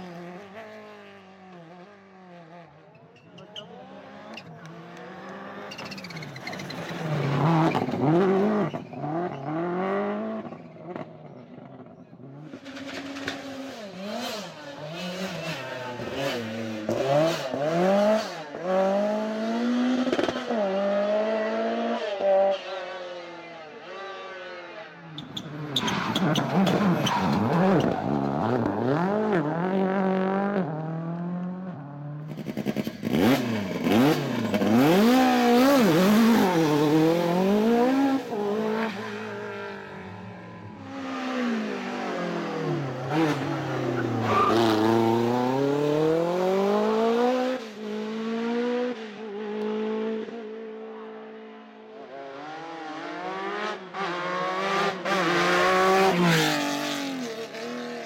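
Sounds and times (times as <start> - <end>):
high-revving rally car engine: 0.0 - 58.0.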